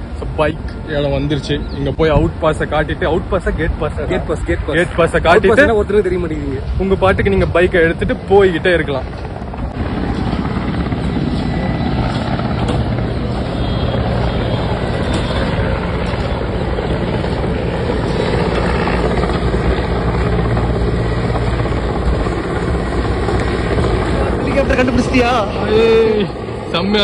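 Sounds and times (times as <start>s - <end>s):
helicopter flying overhead: 0.0s - 27.0s.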